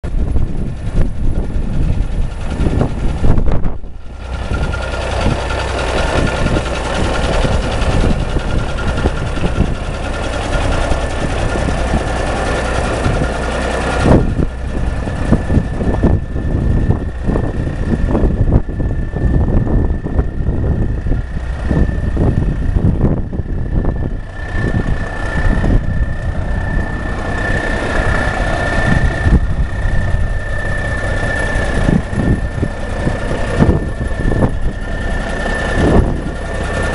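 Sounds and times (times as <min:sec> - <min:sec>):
diesel engine idling: 0:00.1 - 0:36.9
high-pitched whine: 0:00.1 - 0:36.9.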